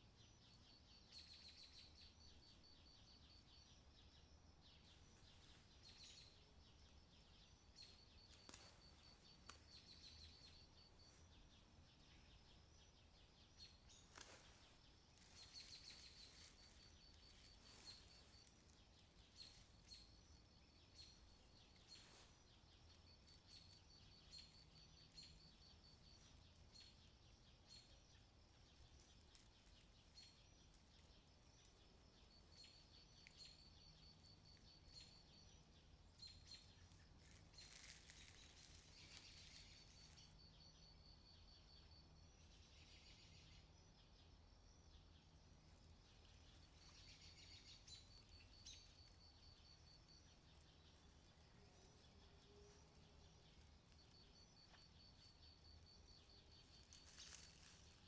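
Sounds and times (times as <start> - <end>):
small birds trilling and chirping: 0.0 - 58.0.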